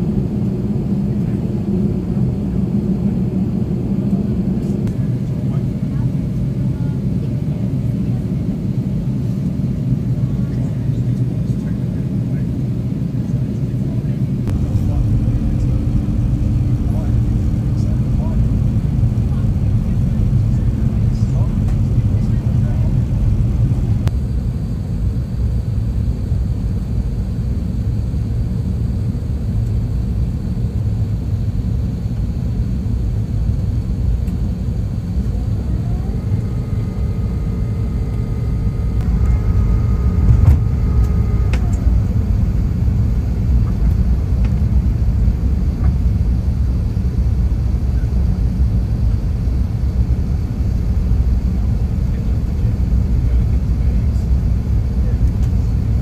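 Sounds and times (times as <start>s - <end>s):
airliner cabin roar: 0.0s - 56.0s
faint high whine: 0.0s - 56.0s.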